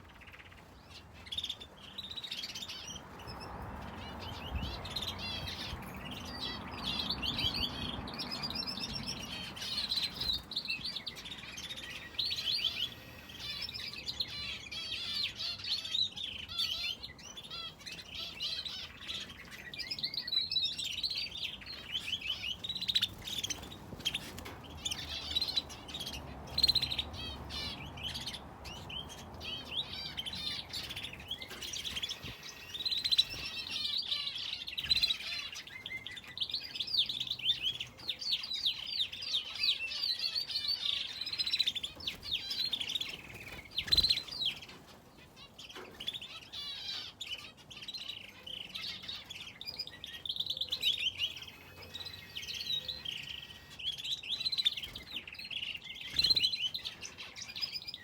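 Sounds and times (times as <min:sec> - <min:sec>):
finches and canary chirping: 0:00.0 - 0:58.0.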